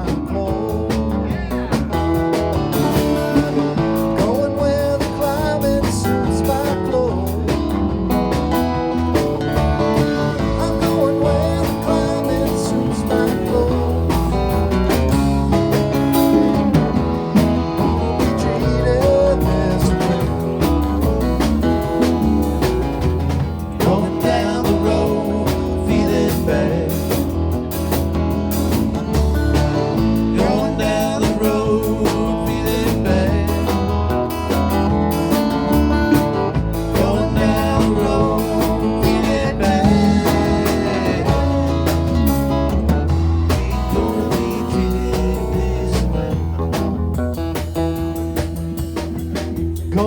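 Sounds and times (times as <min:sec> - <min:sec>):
bass: 0:00.0 - 0:50.0
drum kit steady beat: 0:00.0 - 0:50.0
guitar: 0:00.0 - 0:50.0.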